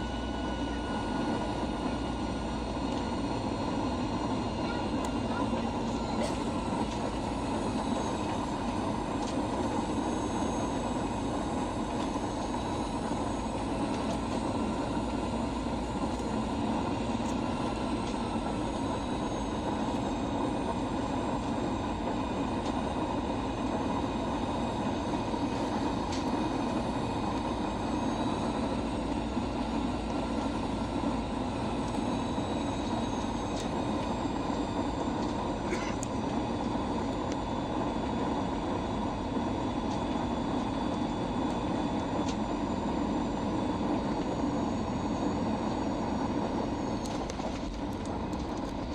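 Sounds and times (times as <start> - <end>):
airliner cabin engine roar: 0.0 - 48.9.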